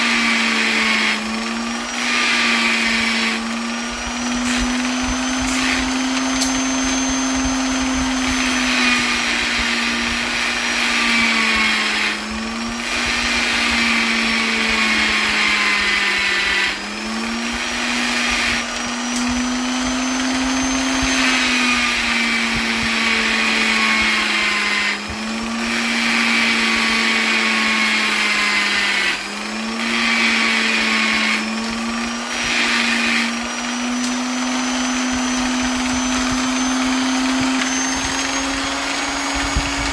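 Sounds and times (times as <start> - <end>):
electric polisher whining: 0.0 - 39.9.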